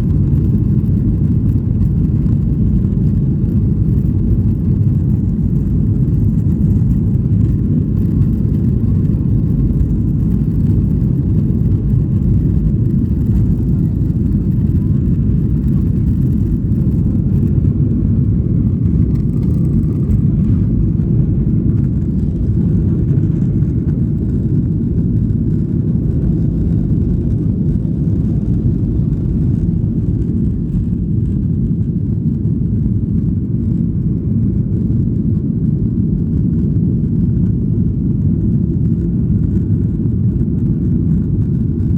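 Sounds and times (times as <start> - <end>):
airliner cabin engine rumble: 0.0 - 41.9.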